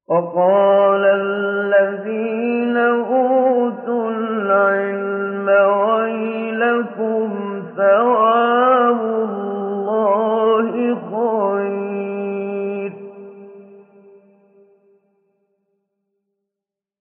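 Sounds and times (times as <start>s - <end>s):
man reciting in melismatic chant: 0.0s - 13.8s.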